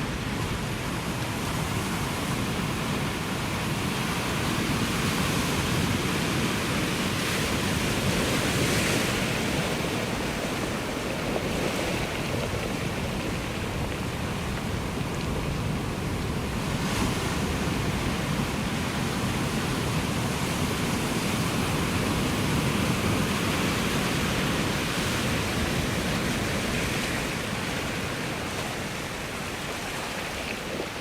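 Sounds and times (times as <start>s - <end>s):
ocean surf washing on shore: 0.0s - 31.0s.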